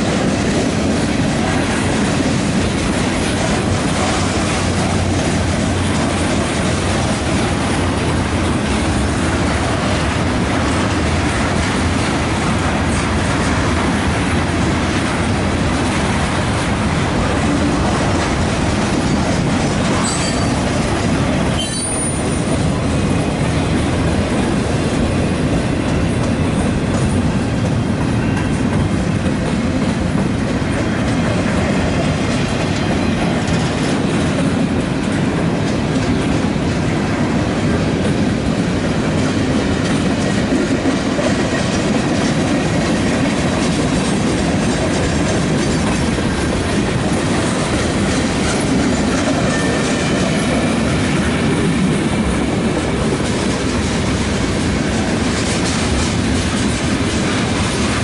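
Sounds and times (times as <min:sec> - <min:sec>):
freight train rolling past: 0:00.0 - 0:58.0
wheels clacking over rail joints: 0:00.0 - 0:58.0.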